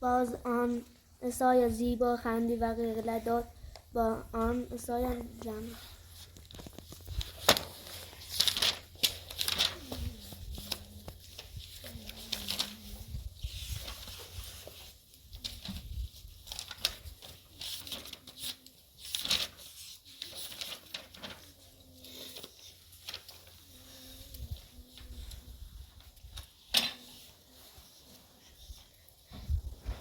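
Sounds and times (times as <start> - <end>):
plastic or cloth rustling: 4.8 - 30.0.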